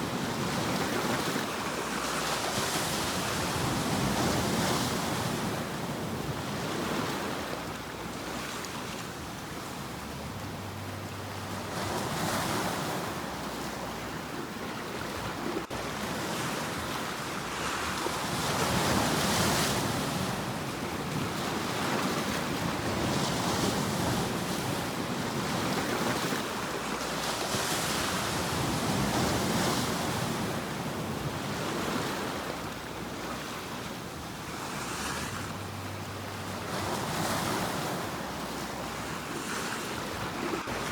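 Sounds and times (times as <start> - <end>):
sea waves breaking ashore: 0.0 - 40.9.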